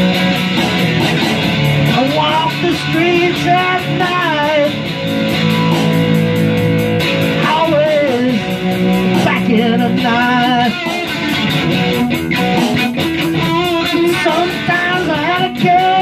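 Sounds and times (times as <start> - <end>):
bending guitar lead melody: 0.0 - 16.0
electric guitar rock groove: 0.0 - 16.0.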